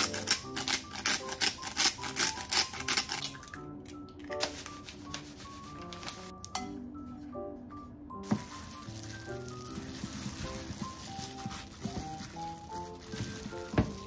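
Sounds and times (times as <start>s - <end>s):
light background music: 0.0s - 14.0s.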